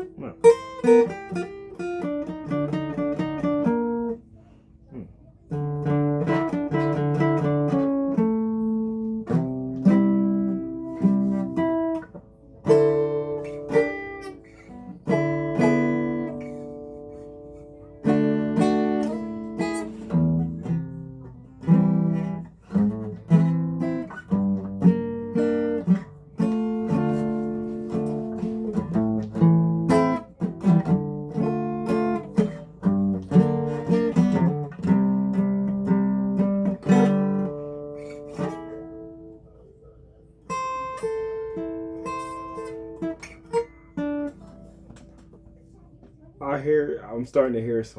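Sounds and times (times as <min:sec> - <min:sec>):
acoustic guitar strumming: 0:00.0 - 0:47.9.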